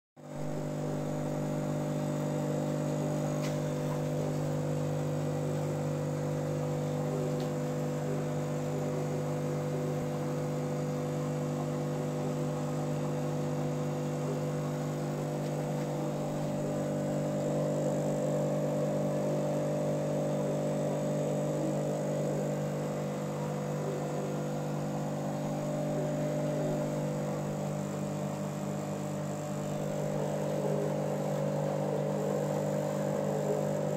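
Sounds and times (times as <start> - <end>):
aquarium pump humming: 0.2 - 33.9.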